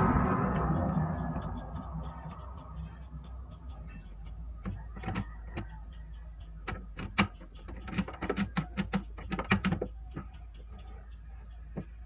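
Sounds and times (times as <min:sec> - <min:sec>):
printer gears clicking and knocking: 0:00.9 - 0:12.0.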